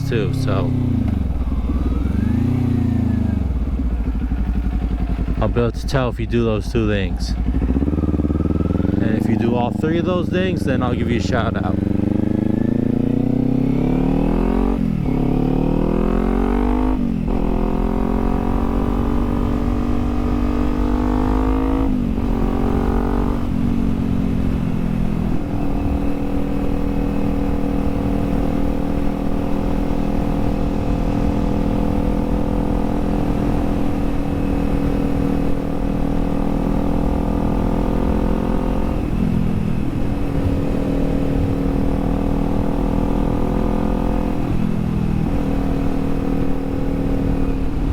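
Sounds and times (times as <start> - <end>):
motorcycle engine shifting gears: 0.0 - 6.0, 7.0 - 47.9.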